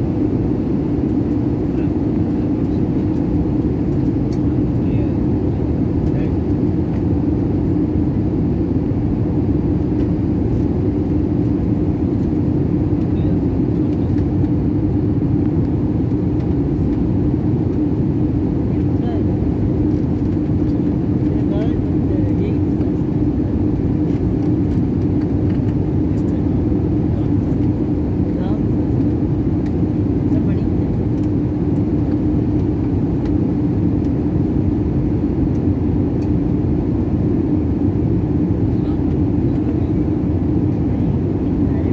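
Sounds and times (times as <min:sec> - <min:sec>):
airliner cabin engine drone: 0:00.0 - 0:41.9
steady hum: 0:00.0 - 0:41.9.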